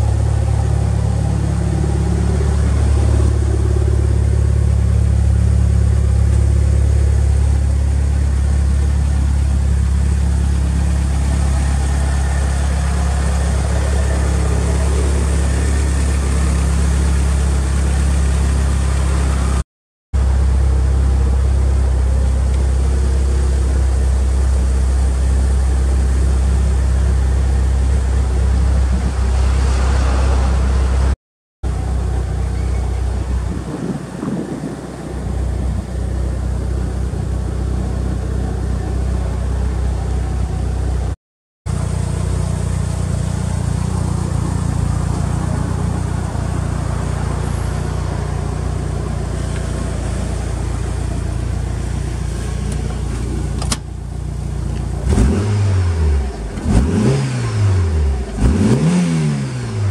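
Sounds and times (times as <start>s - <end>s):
car engine idling: 0.0s - 19.6s, 20.2s - 59.0s.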